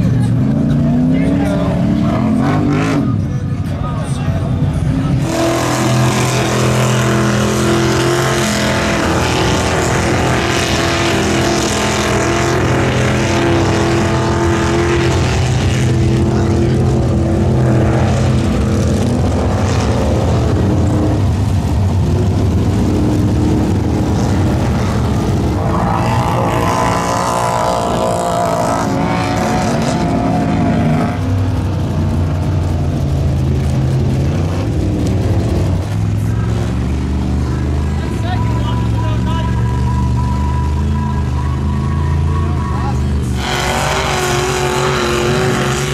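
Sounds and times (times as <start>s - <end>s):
truck engines revving: 0.0s - 45.9s.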